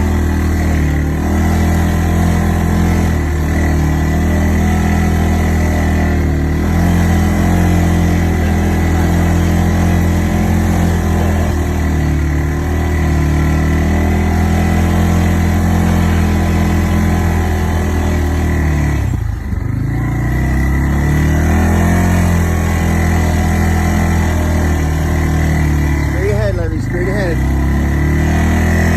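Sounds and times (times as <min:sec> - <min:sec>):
atv engine running: 0:00.0 - 0:28.9.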